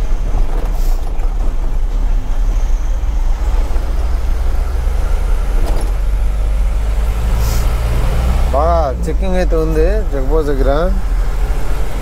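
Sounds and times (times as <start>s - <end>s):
road and tyre noise: 0.0s - 12.0s
truck engine drone: 0.0s - 12.0s.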